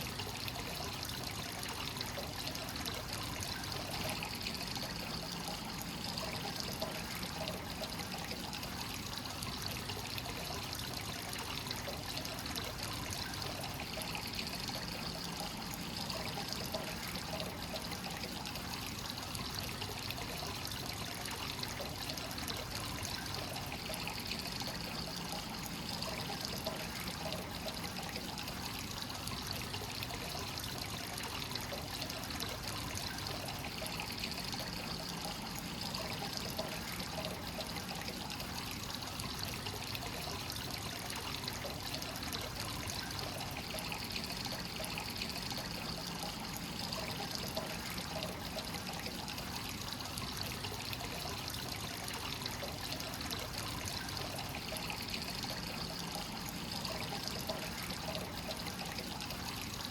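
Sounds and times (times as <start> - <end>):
water trickling into stone bath: 0.0 - 59.9.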